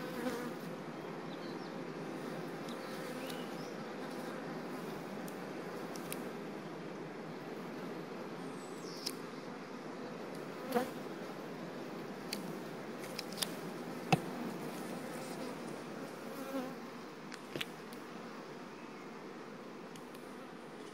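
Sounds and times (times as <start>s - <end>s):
honeybees humming: 0.0s - 20.9s.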